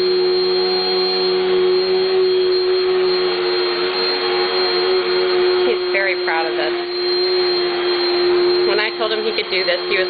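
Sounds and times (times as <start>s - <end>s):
vacuum cleaner motor whine: 0.0s - 10.0s.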